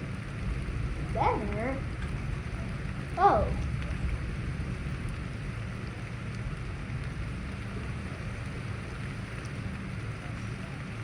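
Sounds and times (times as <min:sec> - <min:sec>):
constant low rumble: 0:00.0 - 0:11.0
steady rain hiss: 0:00.0 - 0:11.0.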